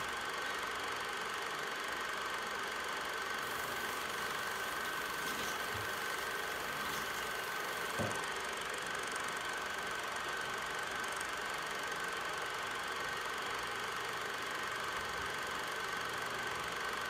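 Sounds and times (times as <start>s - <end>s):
steady hum: 0.0s - 15.4s.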